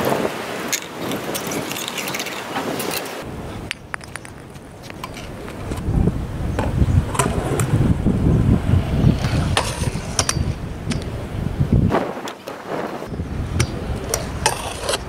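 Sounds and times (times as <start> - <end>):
scooter wheels rumbling on concrete: 0.0 - 15.0.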